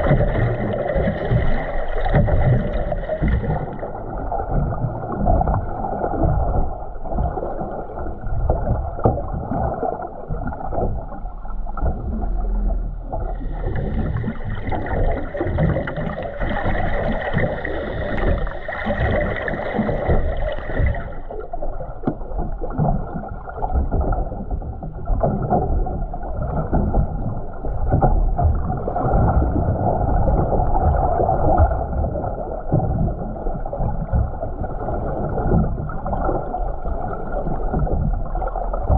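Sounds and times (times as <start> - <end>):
underwater water sloshing: 0.0 - 38.9.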